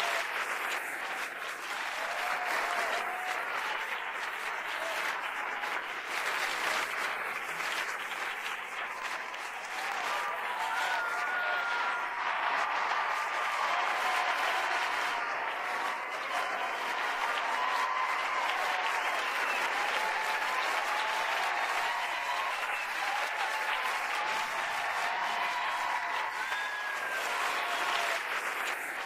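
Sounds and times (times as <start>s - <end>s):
people shouting and whooping: 0.0s - 5.8s, 8.0s - 29.0s
audience applauding: 0.0s - 29.0s.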